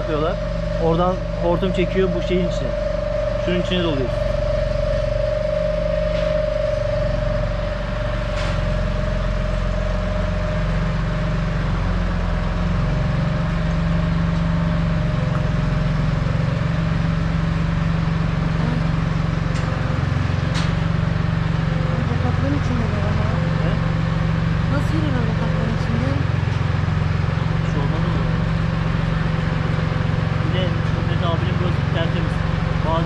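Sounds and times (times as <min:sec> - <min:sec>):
high steady whine: 0:00.0 - 0:33.0
machinery motor humming: 0:00.0 - 0:33.0.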